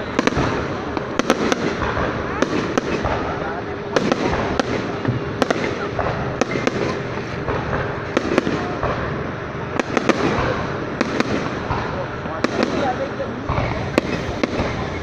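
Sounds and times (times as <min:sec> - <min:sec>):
continuous noisy din: 0:00.0 - 0:15.0
fireworks bangs: 0:00.0 - 0:15.0.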